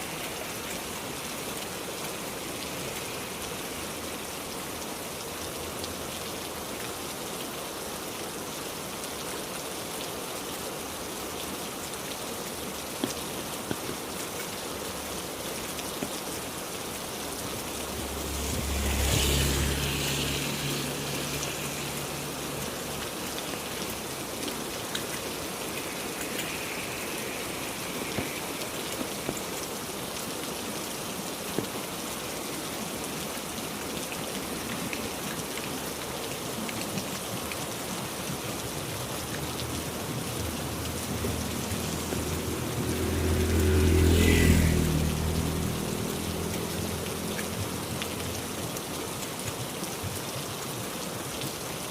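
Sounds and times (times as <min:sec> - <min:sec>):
heavy rain falling: 0:00.0 - 0:51.9
sharp raindrops: 0:00.0 - 0:51.9.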